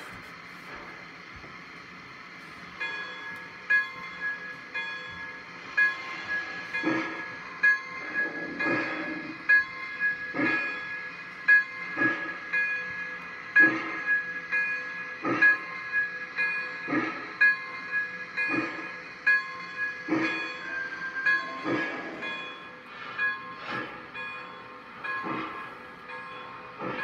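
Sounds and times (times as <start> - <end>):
model steam locomotive chuffs: 0.0 - 27.0.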